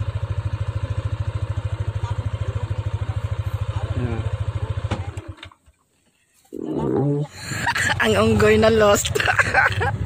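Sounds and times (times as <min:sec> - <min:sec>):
motorcycle engine idling: 0:00.0 - 0:05.9, 0:07.2 - 0:10.0.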